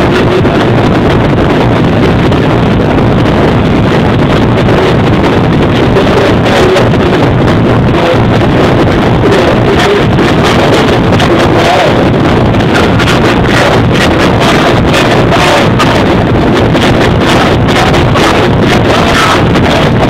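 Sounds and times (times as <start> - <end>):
loud distorted club music: 0.0 - 20.0.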